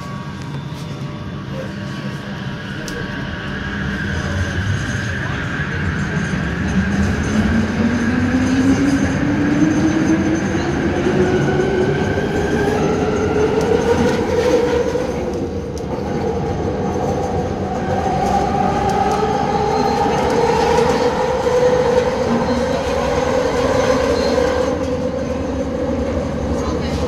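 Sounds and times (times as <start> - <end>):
train propulsion whine: 0.0 - 27.0
wheels rumbling on track: 0.0 - 27.0.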